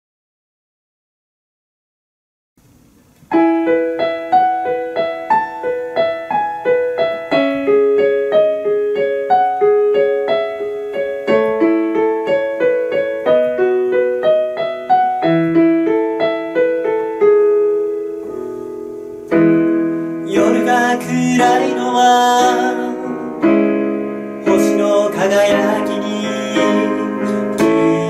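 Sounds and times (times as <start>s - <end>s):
solo piano broken chords: 3.2s - 28.0s.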